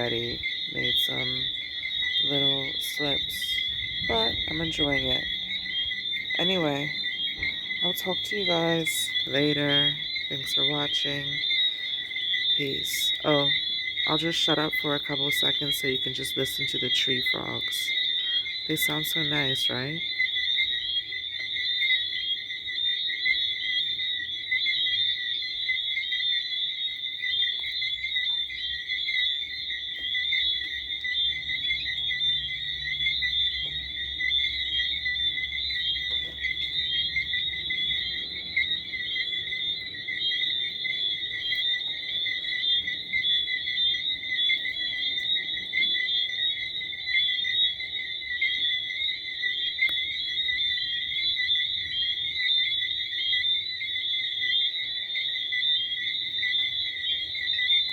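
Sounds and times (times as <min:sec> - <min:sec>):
tree frogs calling: 0:00.0 - 0:57.9.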